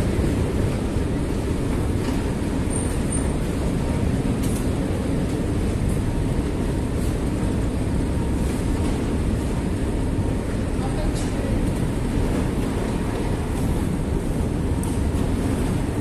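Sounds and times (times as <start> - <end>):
escalator rumble: 0.0 - 16.0.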